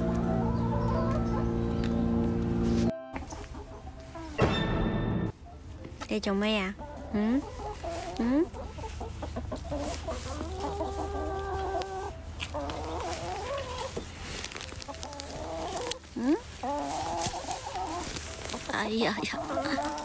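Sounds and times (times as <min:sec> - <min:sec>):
chickens clucking: 0:00.0 - 0:04.4, 0:05.5 - 0:20.0.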